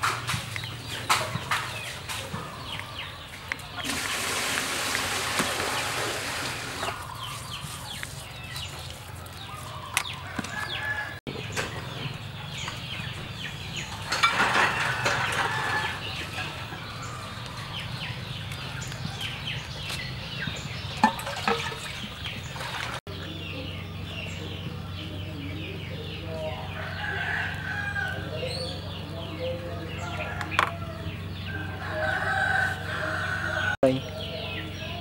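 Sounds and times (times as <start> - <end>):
chickens clucking and calling: 0.0 - 35.0.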